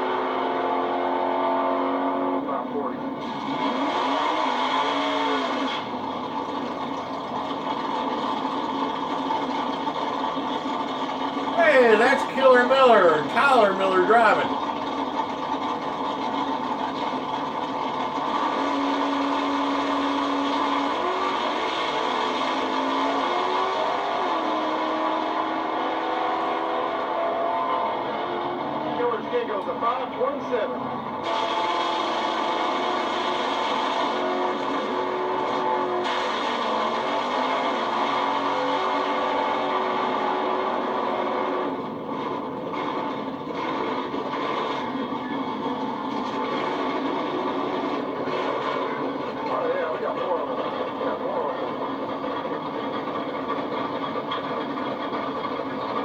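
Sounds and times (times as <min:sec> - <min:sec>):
race vehicle engines droning: 0:00.0 - 0:56.0.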